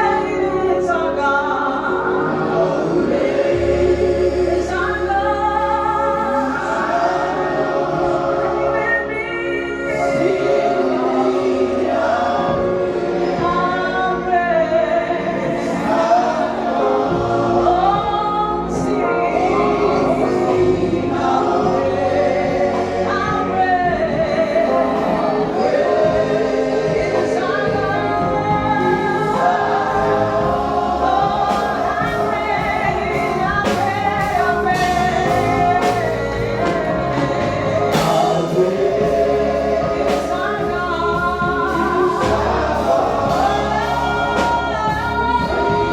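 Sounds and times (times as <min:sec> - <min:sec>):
band with bass and cymbals: 0:00.0 - 0:45.9
choir singing gospel song: 0:00.0 - 0:45.9.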